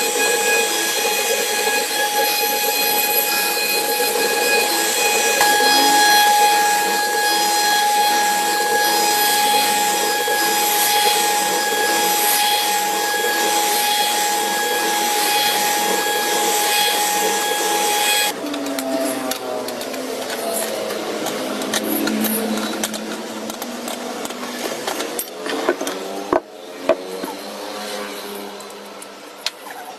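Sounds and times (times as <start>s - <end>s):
router spindle whine: 0.0s - 28.6s.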